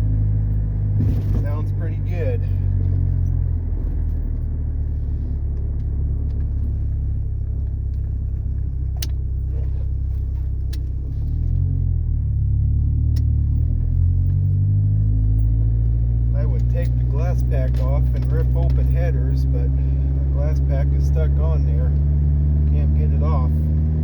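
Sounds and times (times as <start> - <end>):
pickup truck engine rumbling: 0.0 - 24.0.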